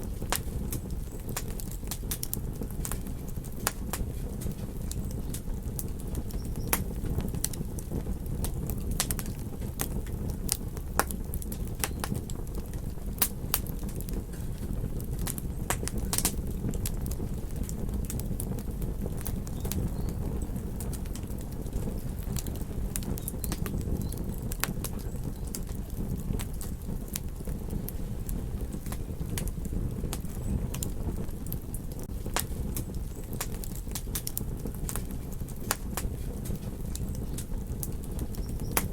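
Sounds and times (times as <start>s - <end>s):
campfire crackling and popping: 0.0s - 38.9s
steady low rumble: 0.0s - 38.9s.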